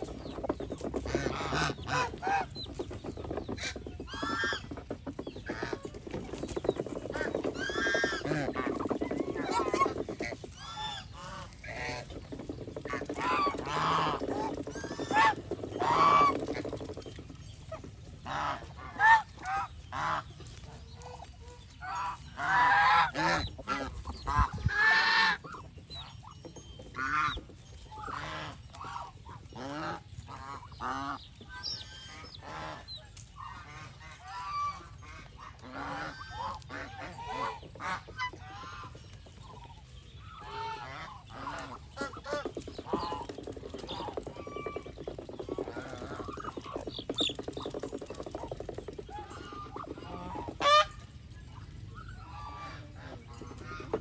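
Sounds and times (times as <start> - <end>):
geese honking: 0.0 - 17.0, 18.2 - 20.3, 21.0 - 25.6, 28.0 - 39.7, 40.3 - 54.0.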